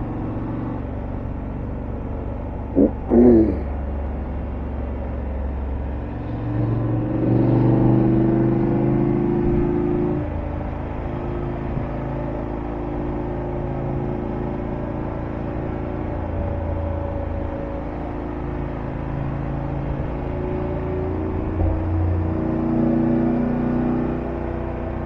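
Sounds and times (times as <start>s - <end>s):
wind and road noise: 3.8s - 25.0s.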